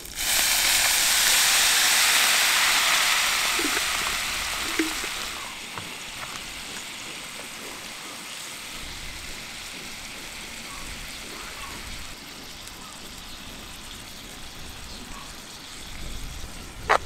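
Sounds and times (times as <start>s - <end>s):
wine sizzling in hot pan: 0.0s - 16.9s.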